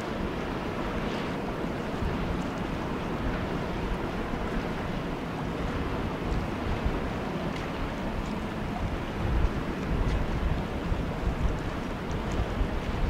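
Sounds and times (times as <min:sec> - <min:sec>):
choppy river water: 0:00.0 - 0:13.0
wind buffeting microphone: 0:00.0 - 0:13.0.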